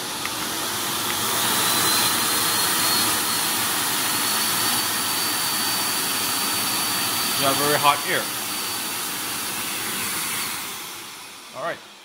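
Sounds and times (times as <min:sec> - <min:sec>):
dog dryer blowing air: 0:00.0 - 0:12.0.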